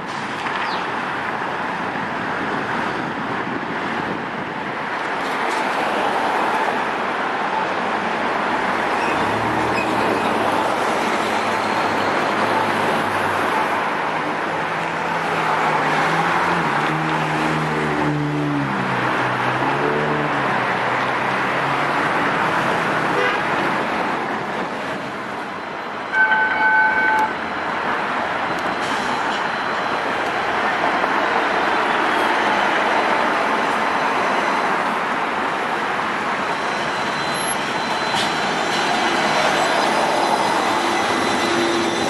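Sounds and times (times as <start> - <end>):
road traffic: 0.0 - 42.0.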